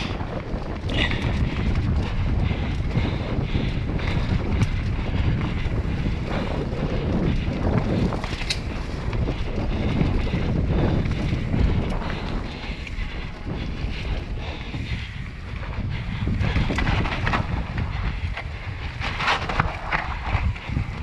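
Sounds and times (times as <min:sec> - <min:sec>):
tyres rumbling and rattling: 0:00.0 - 0:21.0
wind buffeting microphone: 0:00.0 - 0:21.0.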